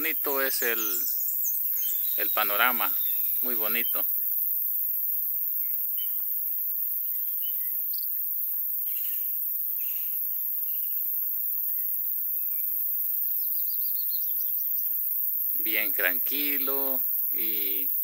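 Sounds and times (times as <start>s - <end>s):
insects hissing: 0.0s - 18.0s
small birds chirping: 0.0s - 18.0s.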